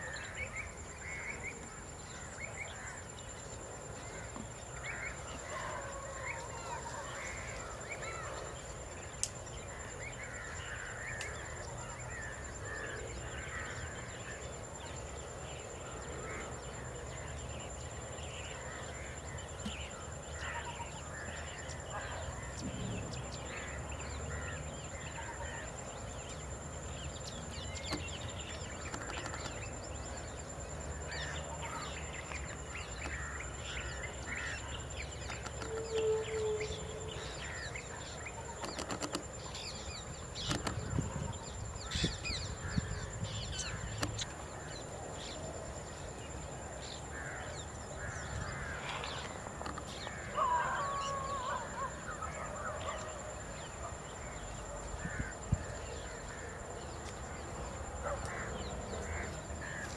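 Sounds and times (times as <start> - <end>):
birds calling and chirping: 0.0 - 59.9.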